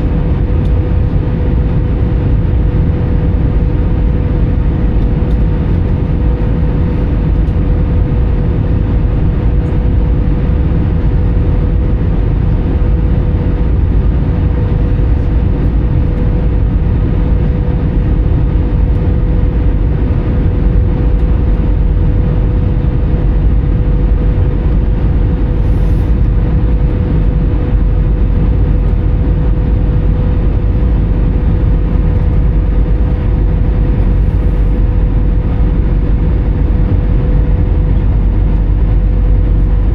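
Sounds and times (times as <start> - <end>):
airplane cabin rumble: 0.0 - 39.9
thin steady hum: 0.0 - 39.9.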